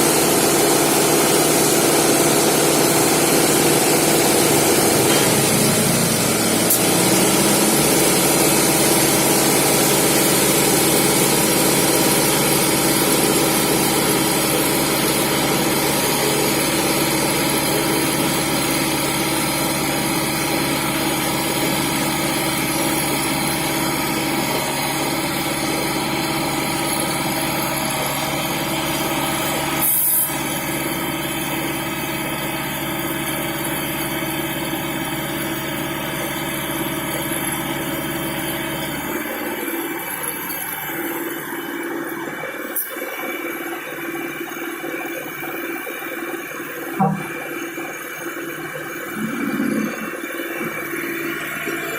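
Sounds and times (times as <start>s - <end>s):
machinery engine running: 0.0s - 51.9s.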